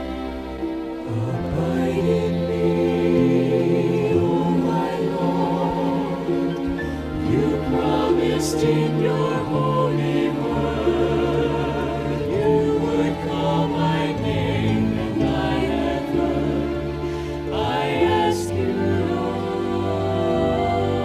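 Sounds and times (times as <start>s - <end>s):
choir singing gospel chords: 0.0s - 21.0s
musical accompaniment: 0.0s - 21.0s.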